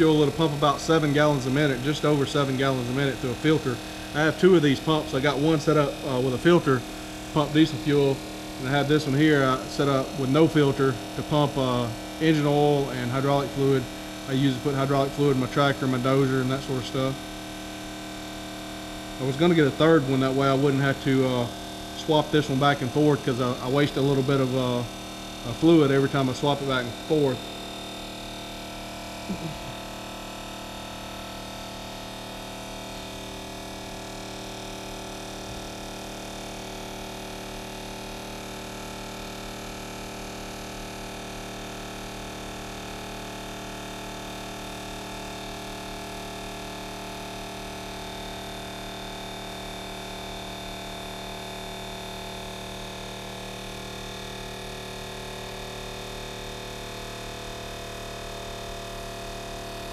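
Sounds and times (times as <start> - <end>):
oil pump humming: 0.0 - 59.9.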